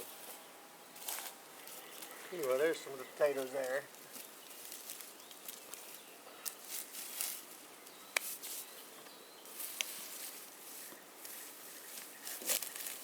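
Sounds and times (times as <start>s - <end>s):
rustling handling noises: 0.0s - 13.0s.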